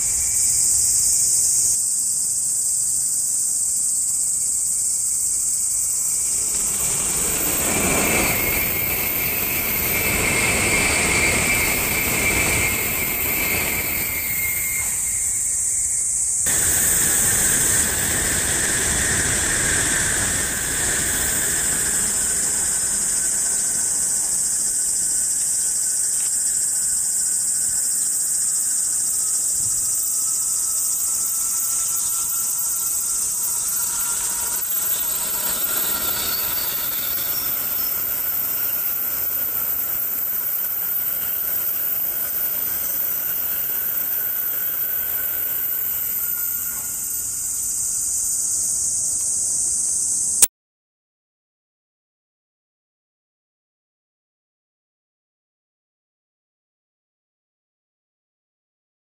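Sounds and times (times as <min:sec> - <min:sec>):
high-speed train rushing past: 0:00.0 - 0:03.4, 0:04.2 - 0:49.1
steady high hiss: 0:00.0 - 0:50.5.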